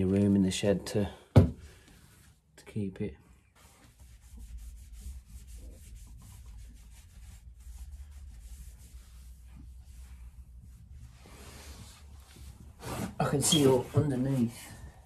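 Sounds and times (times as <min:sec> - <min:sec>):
cloth rubbing on metal pipe: 0:01.9 - 0:02.6, 0:03.5 - 0:15.0.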